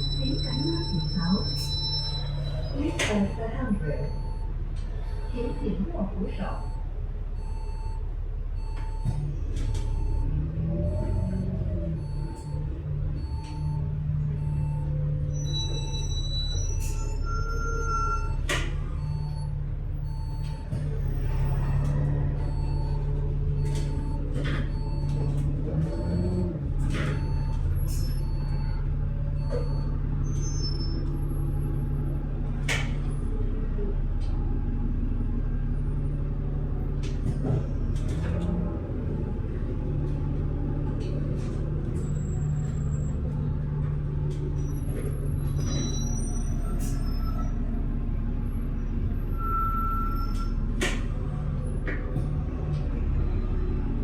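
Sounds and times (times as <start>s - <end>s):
bus engine droning: 0.0s - 54.0s.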